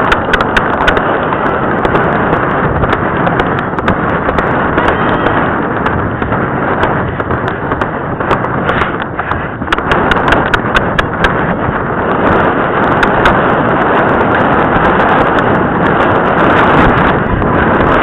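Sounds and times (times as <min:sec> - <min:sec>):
horse hoofbeats on dirt: 0:00.0 - 0:18.0
wind noise on camera: 0:00.0 - 0:18.0.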